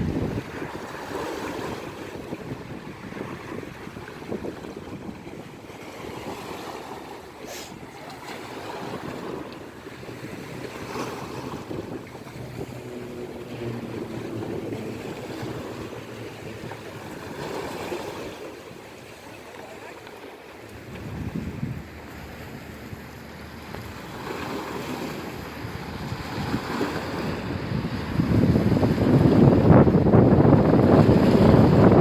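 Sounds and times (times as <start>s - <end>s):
ocean waves breaking on shore: 0.0s - 32.0s.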